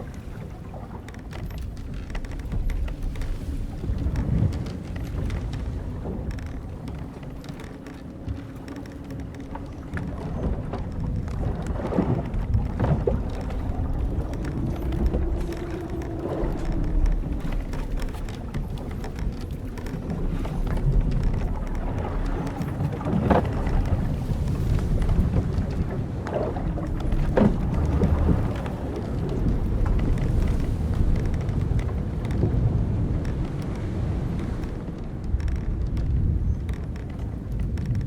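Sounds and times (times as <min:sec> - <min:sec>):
hull timbers and rigging creaking: 0:00.0 - 0:38.0
long creak rising and falling: 0:00.0 - 0:38.0
wind and waves rumbling: 0:00.0 - 0:38.0.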